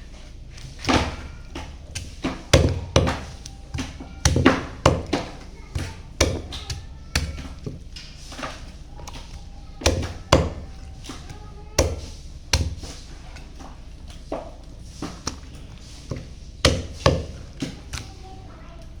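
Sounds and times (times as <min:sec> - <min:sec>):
knife chopping on chopping block: 0:00.6 - 0:17.8.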